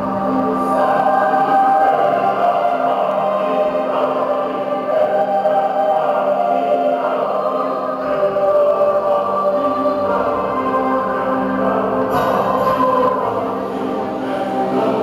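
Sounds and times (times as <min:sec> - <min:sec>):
choir singing long notes: 0:00.0 - 0:15.0
steady musical accompaniment: 0:00.0 - 0:15.0.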